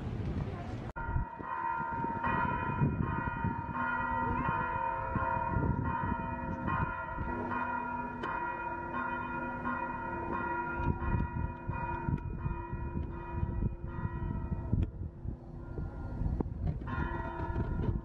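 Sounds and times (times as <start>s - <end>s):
church bell ringing: 1.0s - 14.8s, 16.8s - 18.0s.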